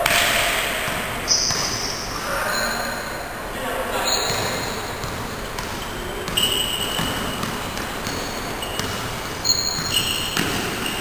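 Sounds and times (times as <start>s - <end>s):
basketball dribbling: 0.0s - 2.0s, 4.0s - 11.0s
sneakers squeaking on floor: 0.0s - 11.0s.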